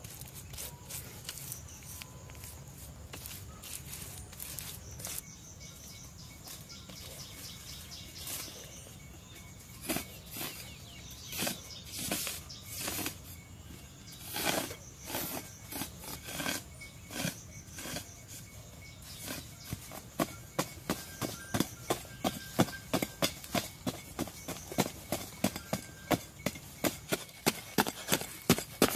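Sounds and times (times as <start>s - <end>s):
tool scraping soil: 0.0s - 8.8s, 9.6s - 28.9s.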